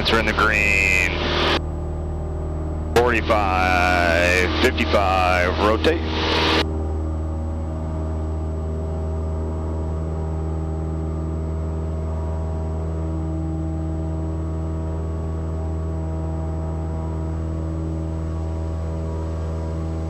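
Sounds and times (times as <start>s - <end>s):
small plane engine droning: 0.0s - 20.0s.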